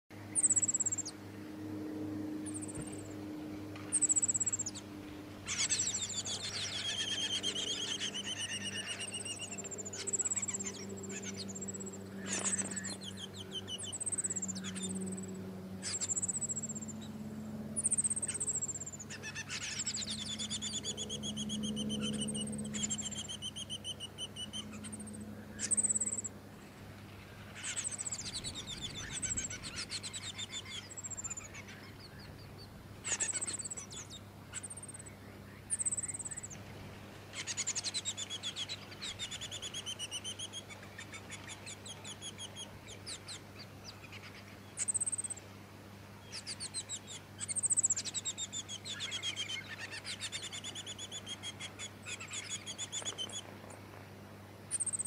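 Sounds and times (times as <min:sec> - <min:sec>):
bird chips and trills: 0:00.3 - 0:01.2, 0:02.4 - 0:03.3, 0:03.9 - 0:17.1, 0:17.8 - 0:26.3, 0:27.4 - 0:36.7, 0:37.3 - 0:45.4, 0:46.2 - 0:53.5, 0:54.7 - 0:55.0.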